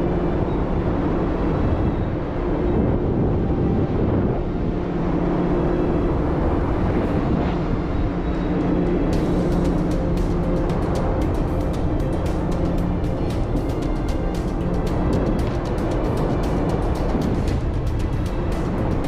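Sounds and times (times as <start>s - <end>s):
loud machinery drone: 0.0s - 19.0s.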